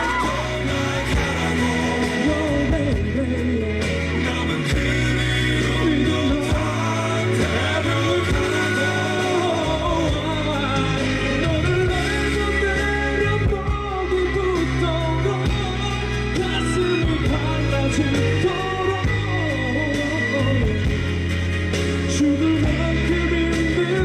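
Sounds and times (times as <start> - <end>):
band accompaniment: 0.0 - 24.0
person singing pop ballad: 0.0 - 24.0.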